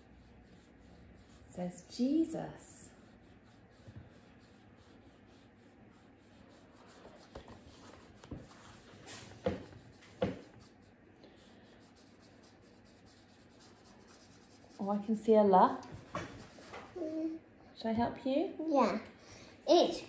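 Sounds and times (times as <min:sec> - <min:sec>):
paintbrush strokes on paper: 0:00.0 - 0:17.4.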